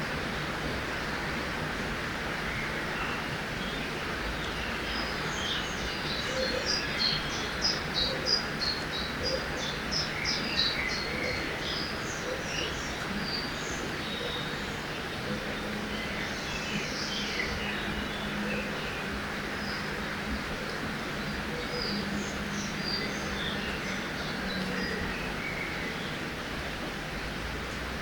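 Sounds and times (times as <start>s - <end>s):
river water rushing: 0.0s - 28.0s
songbird singing: 2.4s - 26.4s.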